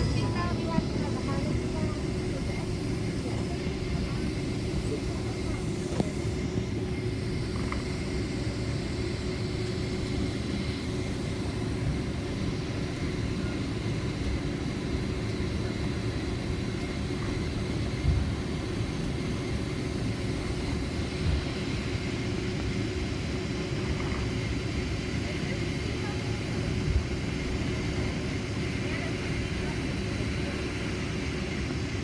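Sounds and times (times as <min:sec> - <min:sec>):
aircraft cabin engine rumble: 0:00.0 - 0:32.0
steady whining tones: 0:00.0 - 0:32.0.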